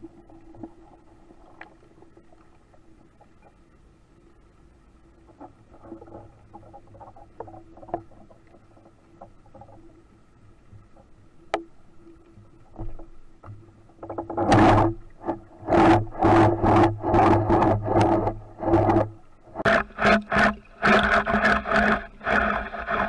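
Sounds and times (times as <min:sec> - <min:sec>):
low underwater hum: 0:00.0 - 0:23.0.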